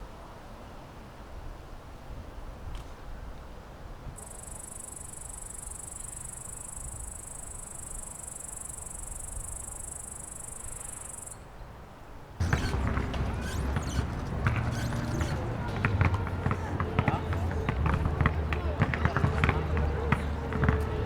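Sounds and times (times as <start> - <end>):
outdoor noise with voices: 0.0 - 21.0.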